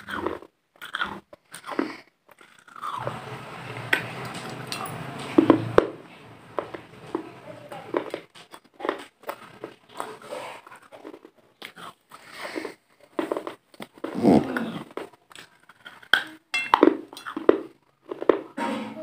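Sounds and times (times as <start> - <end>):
crunchy food chewing: 0.0 - 16.2, 16.9 - 18.6.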